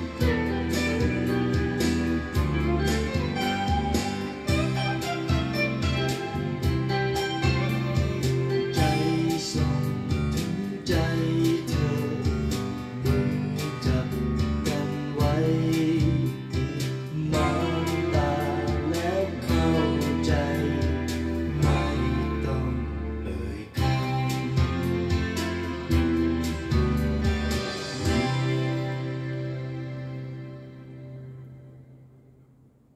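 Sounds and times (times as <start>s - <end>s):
pop ballad with full band: 0.0s - 29.9s.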